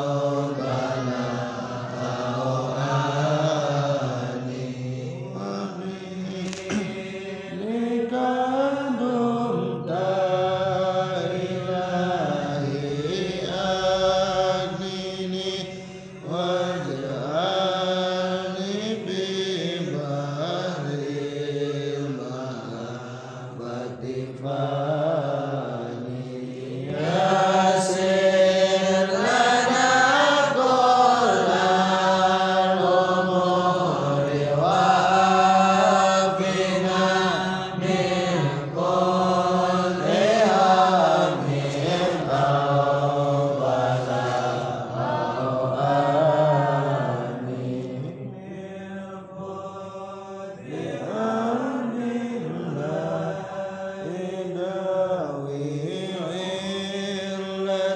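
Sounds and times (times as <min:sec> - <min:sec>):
voices chanting melodically: 0:00.0 - 0:57.9.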